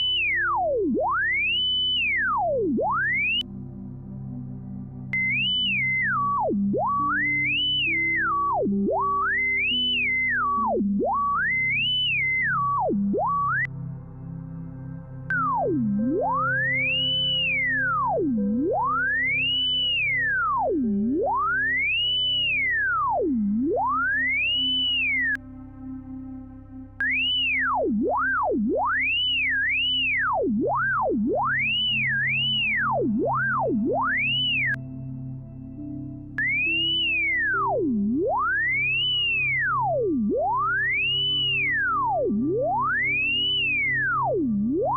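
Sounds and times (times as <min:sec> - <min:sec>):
gliding sine tone: 0:00.0 - 0:44.9
soft background music: 0:00.0 - 0:44.9.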